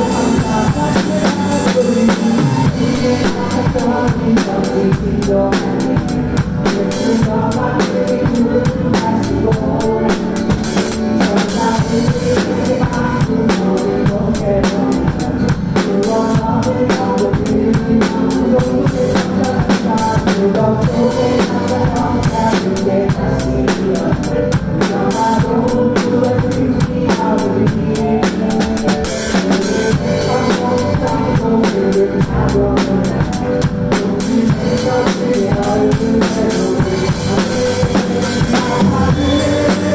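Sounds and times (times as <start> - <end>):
drum kit playing: 0.0 - 39.9
recorded worship song: 0.0 - 39.9.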